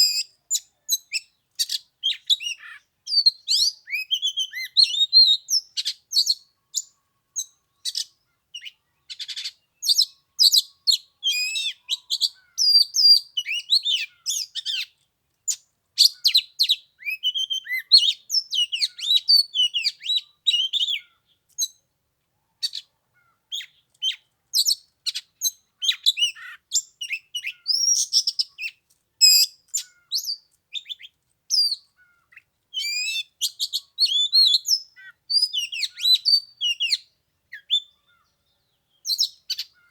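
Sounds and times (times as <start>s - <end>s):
bird singing whistles and chirps: 0.0s - 14.9s, 15.5s - 21.8s, 23.5s - 39.9s.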